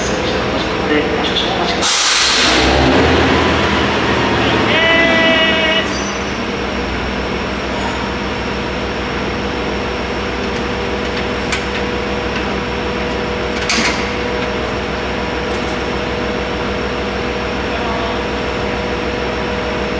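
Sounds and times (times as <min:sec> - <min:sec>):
diesel railcar engine idling: 0:00.0 - 0:19.9.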